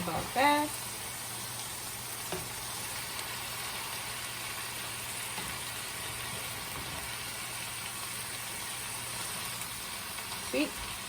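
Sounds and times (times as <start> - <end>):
spinach sizzling in a pan: 0.0 - 11.0.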